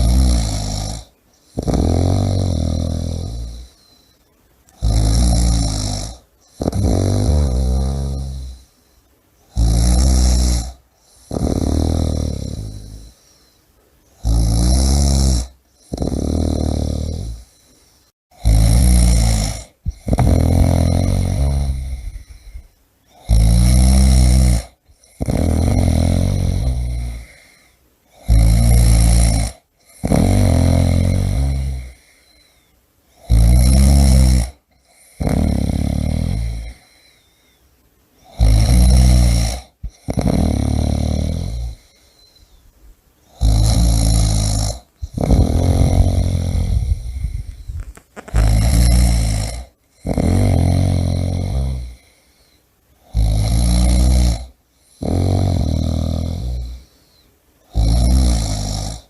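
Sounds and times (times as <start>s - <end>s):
person snoring heavily: 0.0s - 4.1s, 4.8s - 8.8s, 9.5s - 13.5s, 14.2s - 37.3s, 38.2s - 42.5s, 43.3s - 59.0s.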